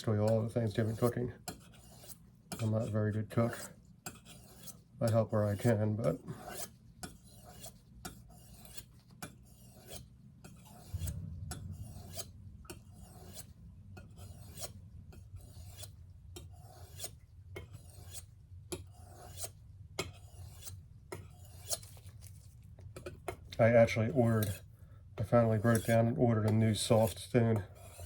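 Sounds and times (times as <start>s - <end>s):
knife scraping sharpening stone: 0.3s - 22.0s, 23.0s - 28.0s.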